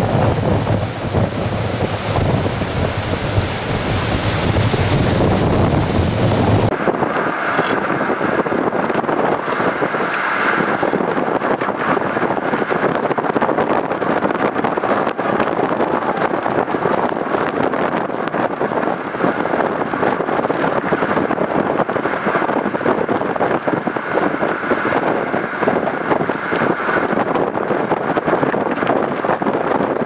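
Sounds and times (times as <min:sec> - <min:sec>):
strong wind buffeting microphone: 0:00.0 - 0:30.0.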